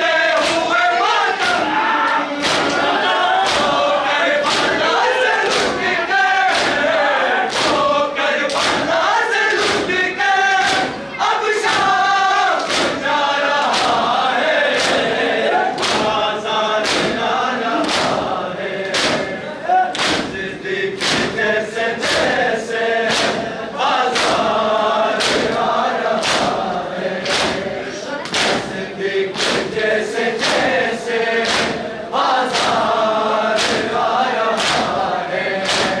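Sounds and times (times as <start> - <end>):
men chanting: 0.0 - 36.0
hands slapping chests: 0.3 - 3.8, 4.4 - 10.0, 10.6 - 11.0, 11.6 - 21.4, 22.0 - 22.4, 23.0 - 31.8, 32.5 - 36.0.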